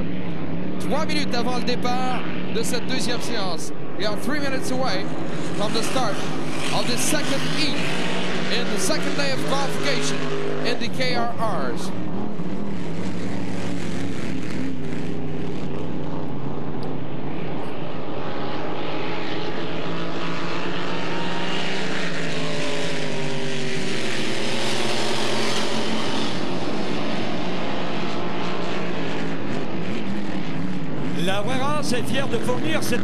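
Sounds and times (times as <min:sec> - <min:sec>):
racing boat engine: 0:00.0 - 0:33.0.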